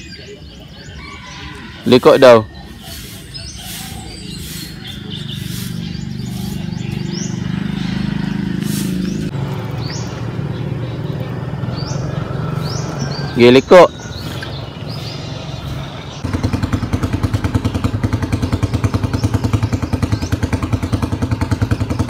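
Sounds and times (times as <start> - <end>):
bird chirps: 0.0 - 22.0
motorcycle engine running: 2.3 - 22.0.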